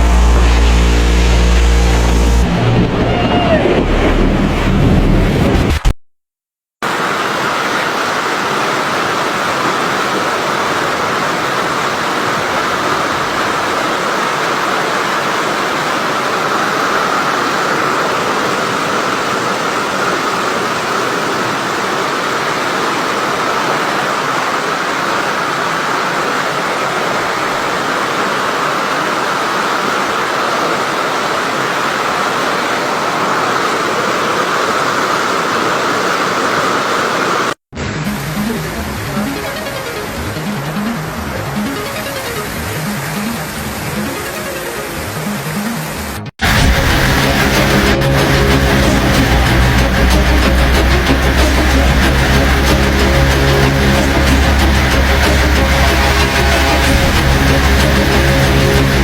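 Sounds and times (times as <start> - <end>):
heavy rain hissing: 0.0 - 5.8, 6.8 - 59.0.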